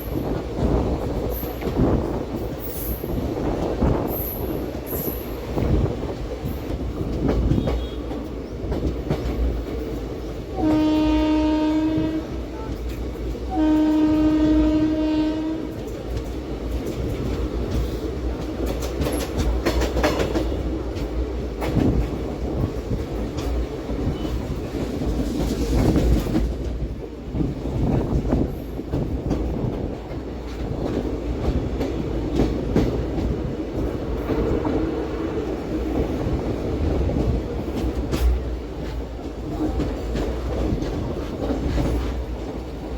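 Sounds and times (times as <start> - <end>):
wheels clicking over rail joints: 0.0 - 10.9, 15.6 - 42.9
train wheels rumbling on rail: 0.0 - 42.9.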